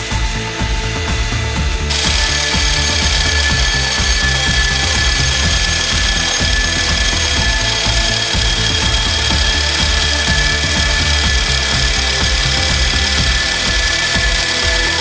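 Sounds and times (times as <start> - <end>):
machine tool cutting metal: 1.9 - 15.0.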